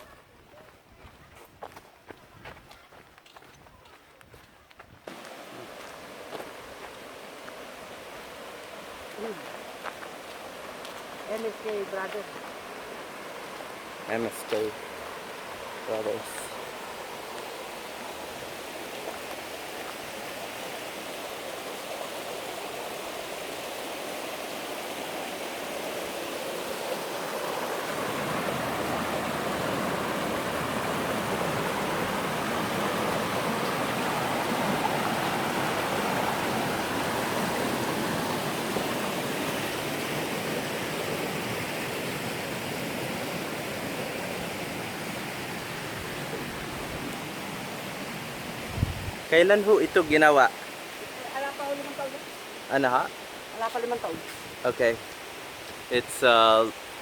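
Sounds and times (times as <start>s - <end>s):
stream water rushing: 5.1s - 57.0s.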